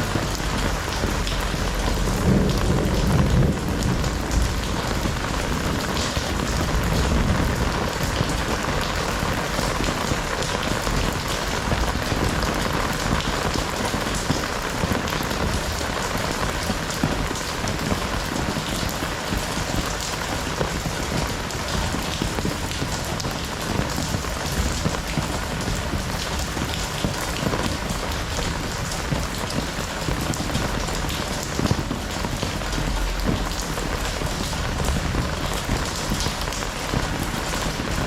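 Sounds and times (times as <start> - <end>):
heavy rain pattering: 0.0 - 38.0.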